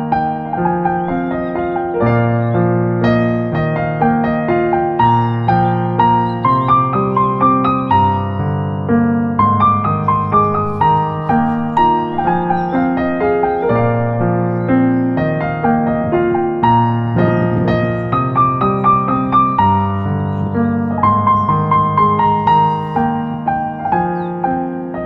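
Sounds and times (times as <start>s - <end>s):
gentle piano music: 0.0s - 25.0s.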